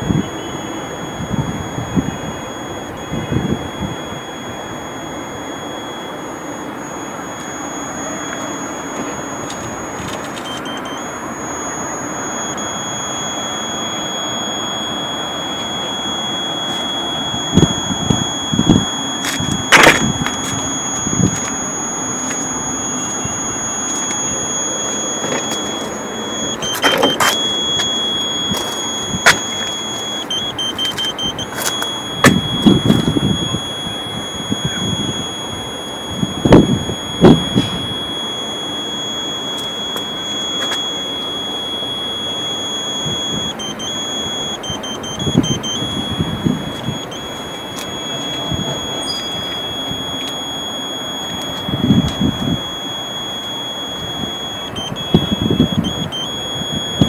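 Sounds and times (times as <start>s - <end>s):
constant hiss: 0.0s - 57.0s
high electronic tone: 0.0s - 57.0s.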